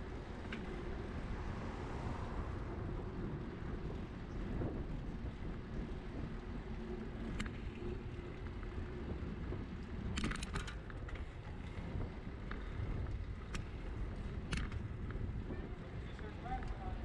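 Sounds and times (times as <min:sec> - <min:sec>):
bicycle road rumble: 0:00.0 - 0:17.0
wind rush on microphone: 0:00.0 - 0:17.0.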